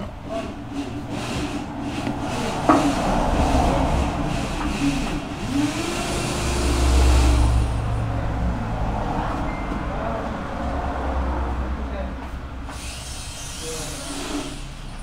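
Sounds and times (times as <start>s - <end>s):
vehicle engine rumbling past: 0.0s - 12.7s.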